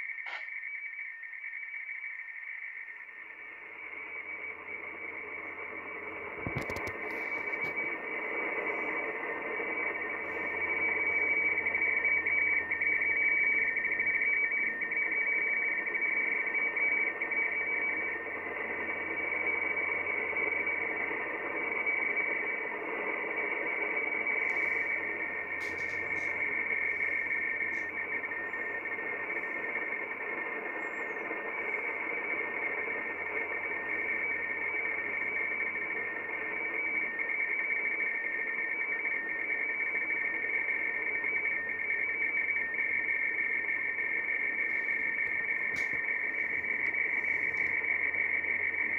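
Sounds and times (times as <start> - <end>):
radio static hiss: 0.0 - 0.6, 3.2 - 48.9
two-tone data signal: 0.0 - 48.9.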